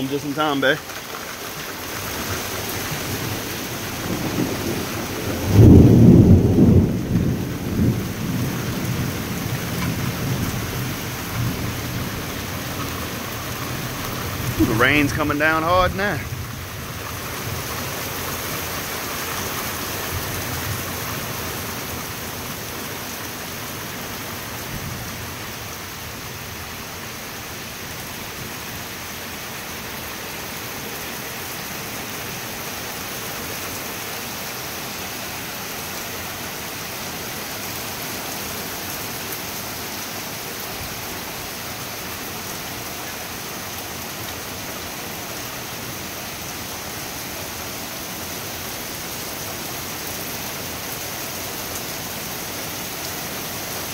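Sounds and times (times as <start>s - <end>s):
heavy rain: 0.0s - 53.9s.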